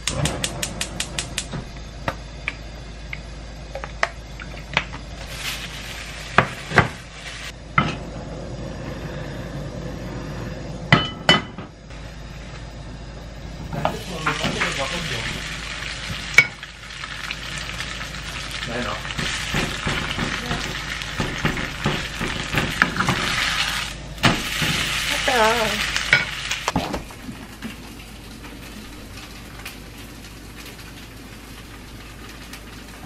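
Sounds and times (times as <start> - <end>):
food sizzling in pan: 0.0 - 8.0, 11.9 - 33.0.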